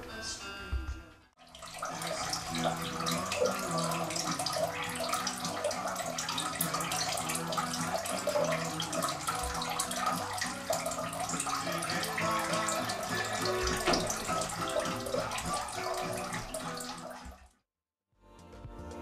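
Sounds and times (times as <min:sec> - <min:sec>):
water pouring into aquarium: 0:01.4 - 0:17.6.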